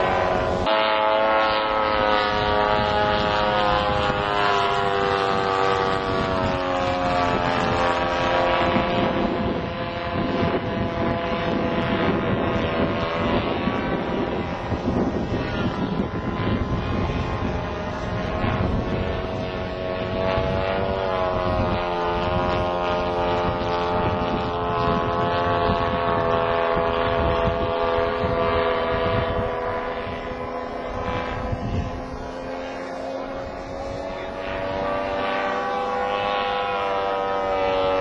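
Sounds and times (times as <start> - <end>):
model plane propeller engine: 0.0 - 38.0.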